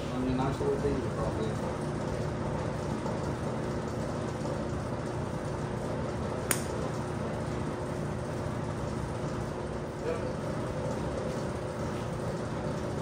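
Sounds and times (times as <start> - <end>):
workshop background hum: 0.0 - 13.0.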